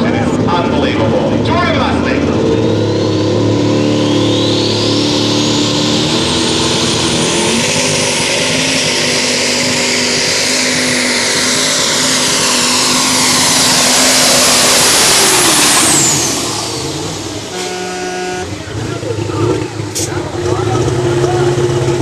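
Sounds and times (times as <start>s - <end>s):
diesel engine running flat out: 0.0s - 22.0s
turbocharger whine: 0.0s - 22.0s.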